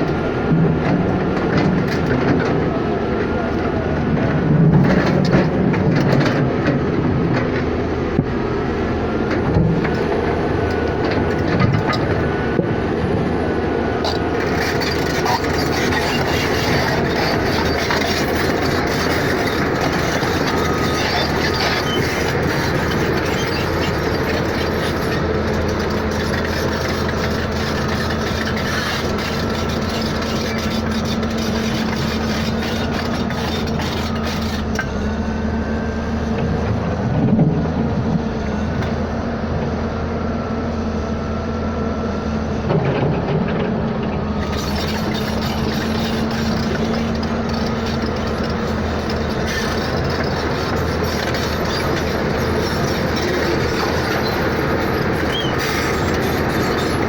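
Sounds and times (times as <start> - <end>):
moving vehicle running noise: 0.0 - 57.0.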